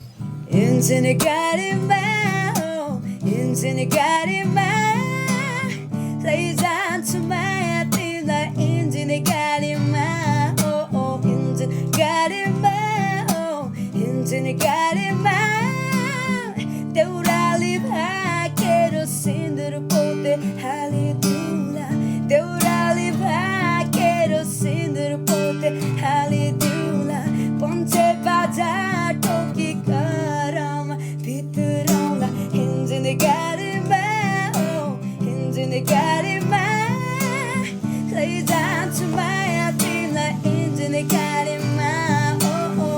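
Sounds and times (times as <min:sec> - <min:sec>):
strummed acoustic guitar: 0:00.0 - 0:42.9
person singing: 0:00.4 - 0:42.9.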